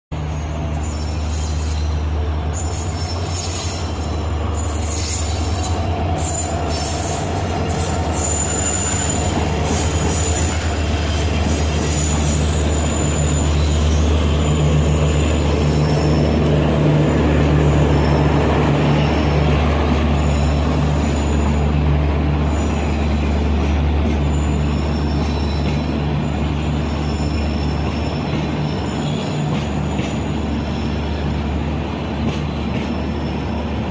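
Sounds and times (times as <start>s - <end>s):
diesel locomotive engine drone: 0.1s - 33.9s
train coaches rumbling on rails: 0.1s - 33.9s
high wheel squeals: 0.2s - 21.8s, 22.4s - 31.3s.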